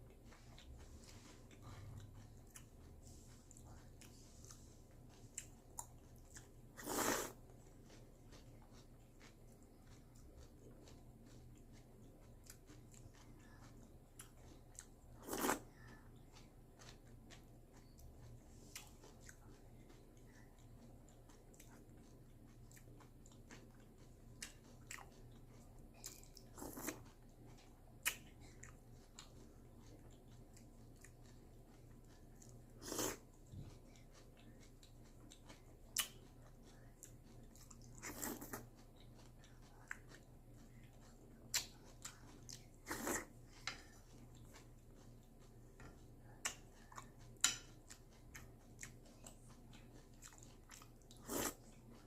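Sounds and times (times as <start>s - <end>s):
person chewing crunchy cereal: 0.0s - 52.0s.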